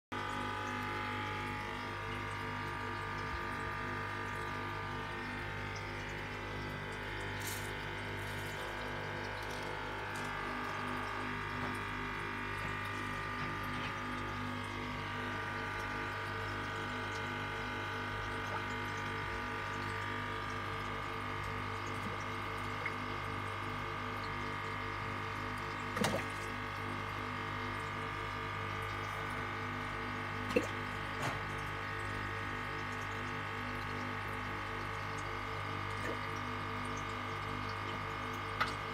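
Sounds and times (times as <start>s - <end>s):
aquarium pump hum: 0.1s - 38.9s
water rushing in a tank: 0.1s - 38.9s.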